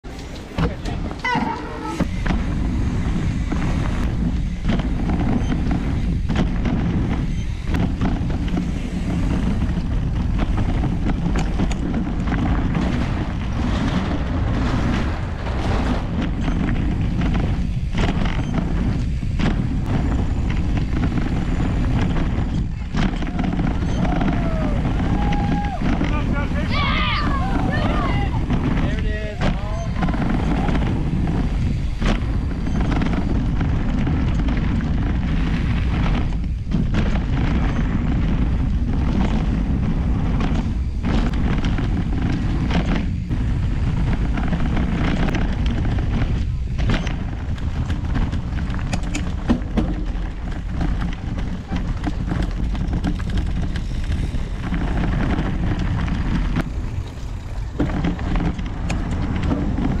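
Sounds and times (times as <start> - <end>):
bike knocking and rattling: 0.0 - 60.0
bike tyres rolling on dirt: 0.0 - 60.0
wind buffeting microphone: 0.0 - 60.0.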